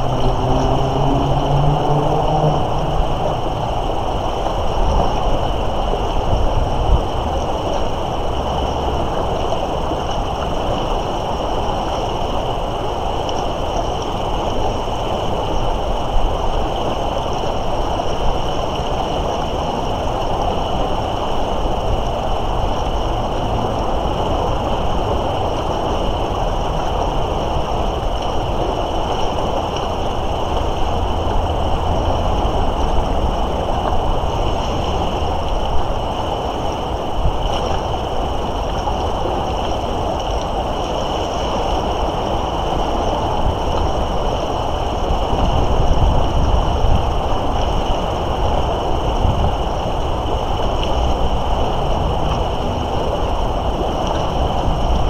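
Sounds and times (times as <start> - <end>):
river rushing: 0.0 - 55.0
wind buffeting microphone: 0.0 - 55.0.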